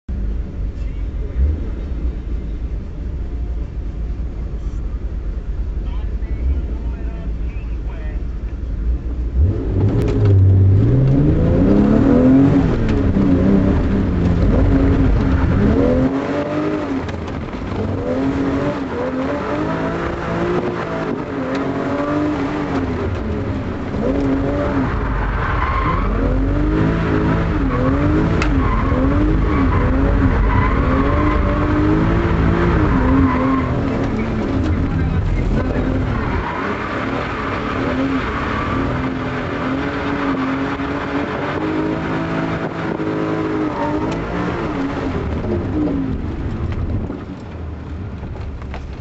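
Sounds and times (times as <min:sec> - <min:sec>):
car engine revving: 0:08.2 - 0:49.0.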